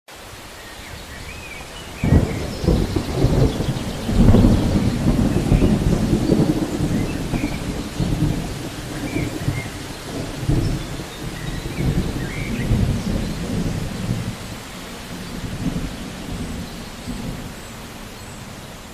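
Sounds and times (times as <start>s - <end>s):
rain hissing: 0.1s - 18.9s
thunder rumbling: 1.0s - 18.7s.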